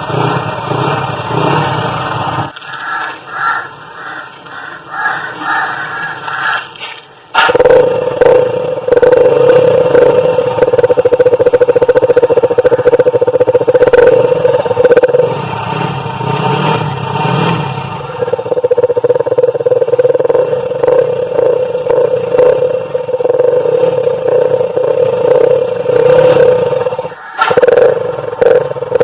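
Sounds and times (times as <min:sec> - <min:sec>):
motorcycle engine running: 0:00.0 - 0:06.6, 0:07.3 - 0:29.0.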